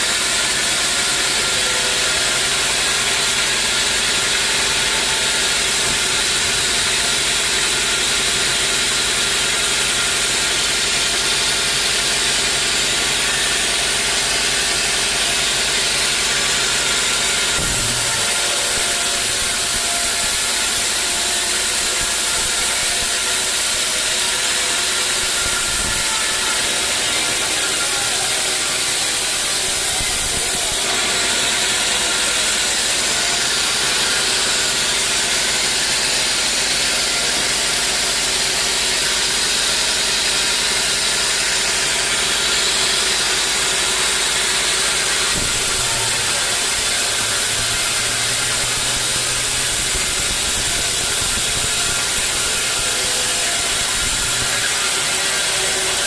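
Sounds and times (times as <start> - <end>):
motor hum: 0.0 - 40.1, 41.1 - 56.0
sawmill machinery cutting logs: 0.0 - 56.0.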